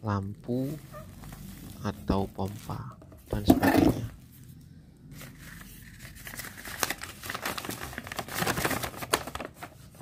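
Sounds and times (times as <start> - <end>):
paper and bubble wrap crinkling: 0.0 - 4.5, 5.1 - 10.0.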